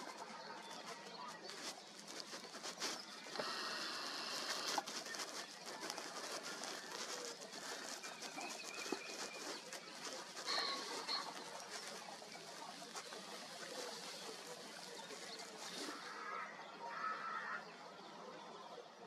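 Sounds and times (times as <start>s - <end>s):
bird calls: 0.0s - 17.7s
faint outdoor background: 0.0s - 19.0s.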